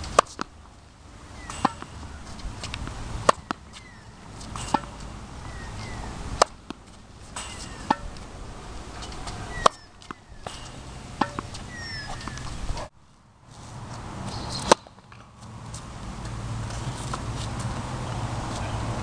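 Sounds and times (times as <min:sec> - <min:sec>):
tennis racket hitting ball: 0:00.0 - 0:00.5, 0:01.2 - 0:12.9, 0:14.3 - 0:17.7
tennis ball bouncing: 0:00.0 - 0:00.6, 0:01.2 - 0:12.9, 0:14.3 - 0:17.7.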